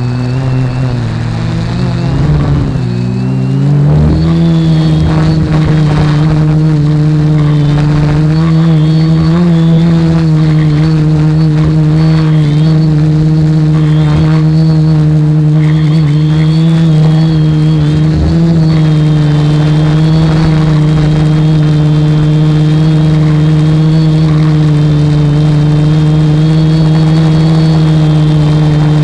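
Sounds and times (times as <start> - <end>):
drone motors humming: 0.0 - 29.0.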